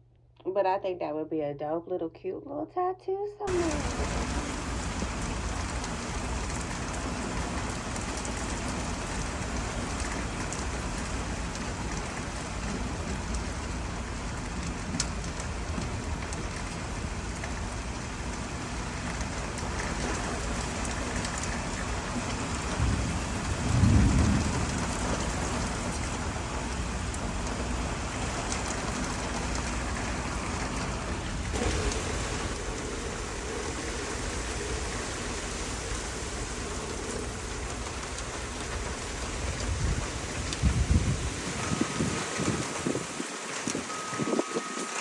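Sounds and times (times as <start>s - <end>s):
low thunder rumble: 3.5s - 44.0s
steady rain falling: 3.5s - 45.0s.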